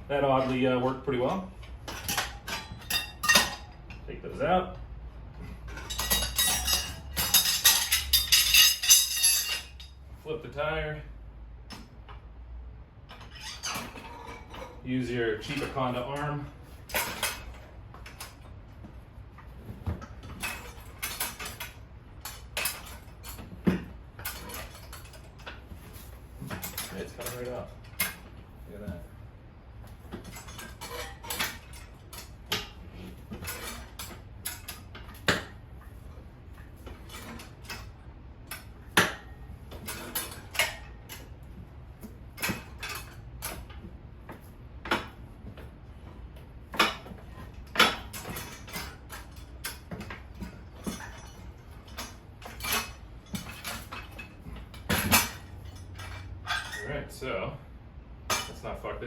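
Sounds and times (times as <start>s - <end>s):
tire irons clanking on metal rim: 0.1s - 4.6s, 5.2s - 10.1s, 13.0s - 29.1s, 30.0s - 57.2s, 58.2s - 59.0s.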